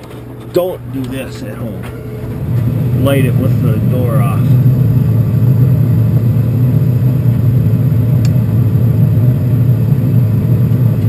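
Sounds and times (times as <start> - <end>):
water heater blower rumbling: 0.0 - 11.0.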